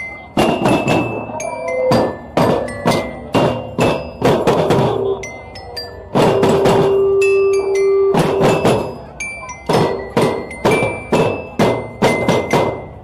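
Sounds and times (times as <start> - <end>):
percussion music: 0.0 - 13.0
ringing metallic tones: 0.0 - 13.0.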